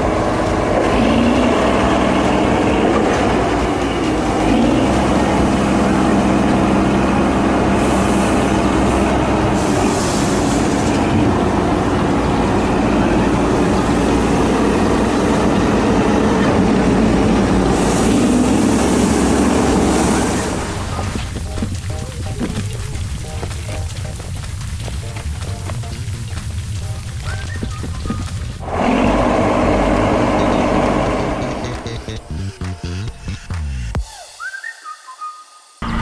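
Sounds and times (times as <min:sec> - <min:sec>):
heavy vehicle rumbling: 0:00.0 - 0:34.0.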